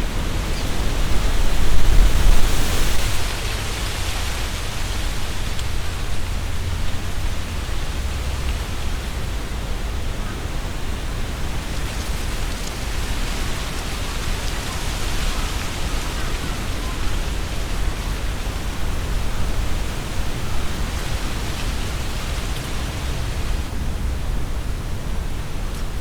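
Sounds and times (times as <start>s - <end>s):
leaves rustling in wind: 0.0s - 26.0s
low wind rumble: 0.0s - 26.0s.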